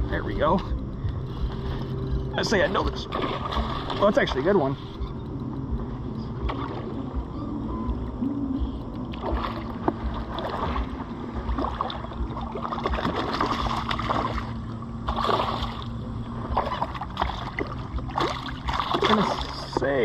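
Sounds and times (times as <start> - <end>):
steady low rumble: 0.0 - 20.0
water splashing and gurgling: 0.0 - 20.0.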